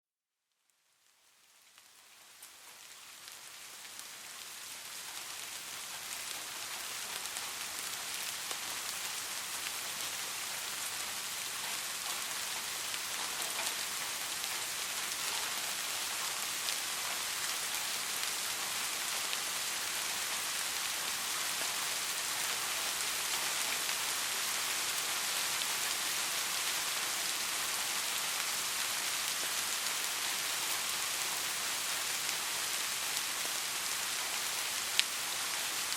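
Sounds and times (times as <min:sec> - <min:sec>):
soft steady rain: 0:00.3 - 0:35.9.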